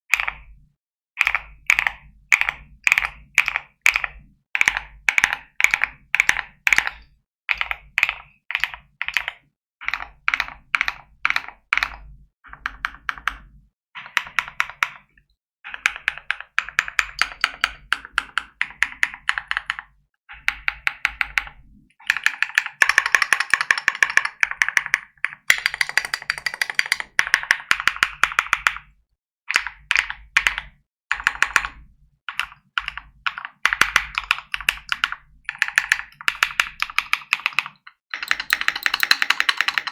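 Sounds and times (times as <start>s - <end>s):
mechanical keyboard typing: 0.1s - 0.5s, 1.2s - 15.1s, 15.7s - 28.9s, 29.5s - 39.9s.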